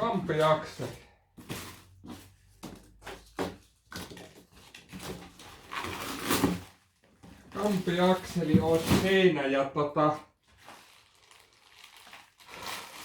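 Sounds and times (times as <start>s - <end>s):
packaging rustling and crinkling: 1.4s - 9.3s, 10.4s - 13.0s.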